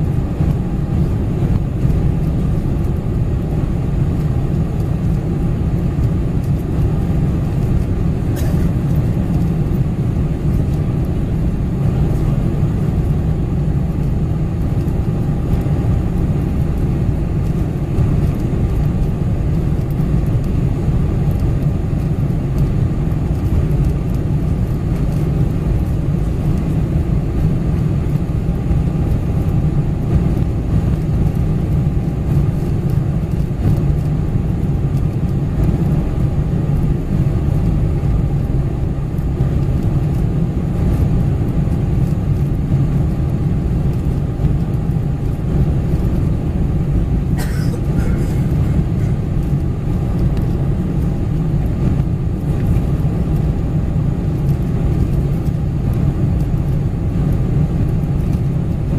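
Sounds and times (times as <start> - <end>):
airplane cabin engine noise: 0.0 - 58.9.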